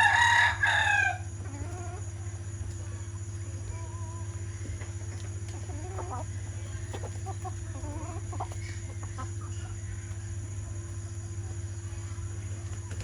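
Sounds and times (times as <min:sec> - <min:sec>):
steady low hum: 0:00.0 - 0:13.0
chickens clucking: 0:01.2 - 0:13.0.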